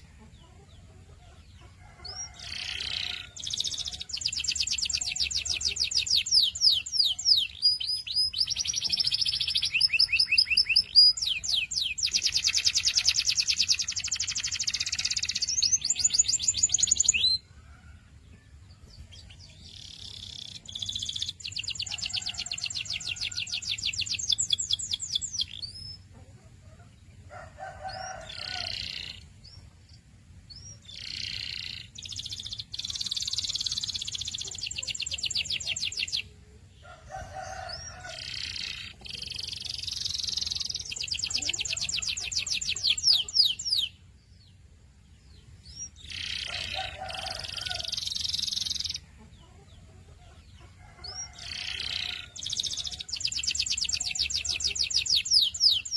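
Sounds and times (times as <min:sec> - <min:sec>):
canary singing trills: 0:00.0 - 0:17.7, 0:18.8 - 0:27.0, 0:27.6 - 0:55.9.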